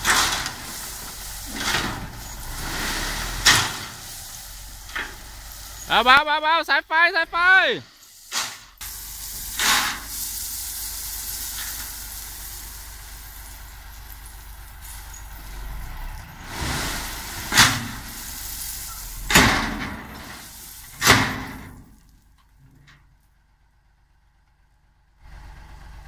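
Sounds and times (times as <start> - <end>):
gravel pouring from truck bed: 0.0 - 22.4
diesel engine hum: 0.0 - 26.0.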